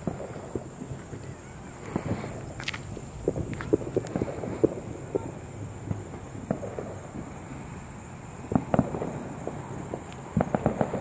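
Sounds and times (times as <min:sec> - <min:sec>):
distant firecrackers popping: 0:00.0 - 0:11.0.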